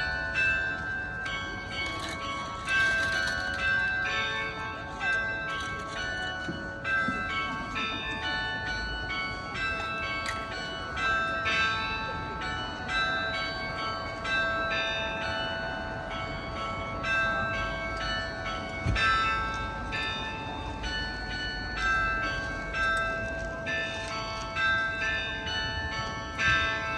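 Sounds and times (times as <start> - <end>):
church bells pealing: 0.0 - 26.9.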